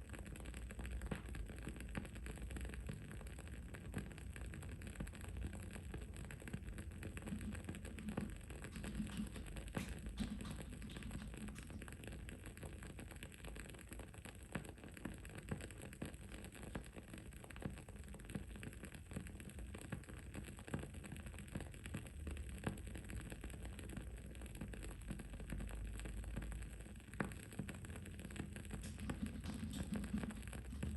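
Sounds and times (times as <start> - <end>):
candle crackling: 0.0 - 30.9.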